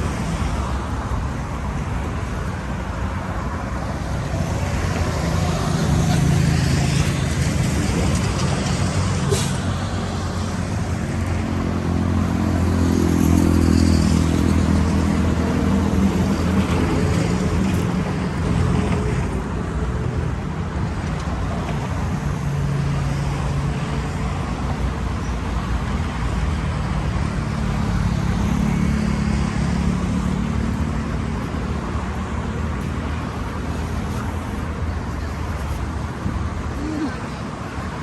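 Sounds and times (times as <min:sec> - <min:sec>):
cars driving past: 0:00.0 - 0:38.0.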